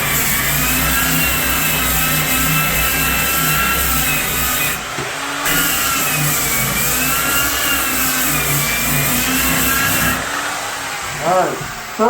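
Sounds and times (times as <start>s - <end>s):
electric sander whining: 0.0s - 12.0s.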